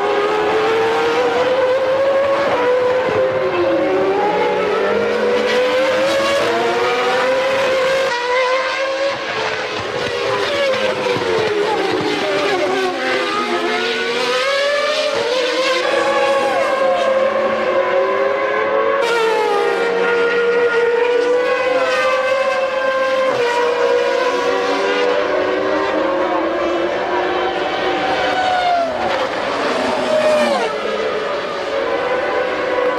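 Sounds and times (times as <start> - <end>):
race car engines at high revs: 0.0 - 32.9.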